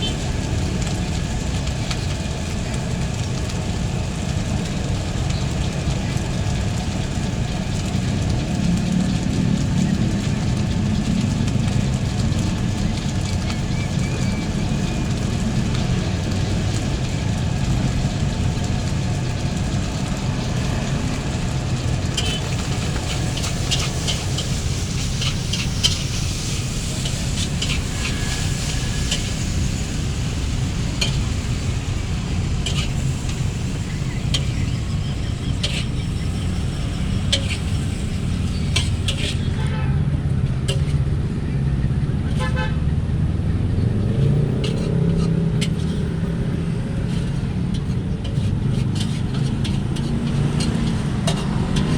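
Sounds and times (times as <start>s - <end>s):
low rumble of traffic: 0.0s - 51.9s
rice sizzling in a wok: 0.0s - 51.9s.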